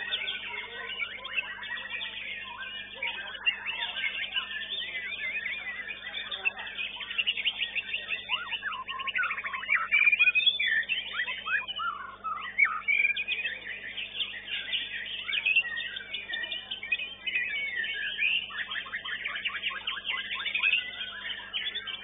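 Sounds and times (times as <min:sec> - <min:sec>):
songbird singing whistles and trills: 0:00.0 - 0:22.0.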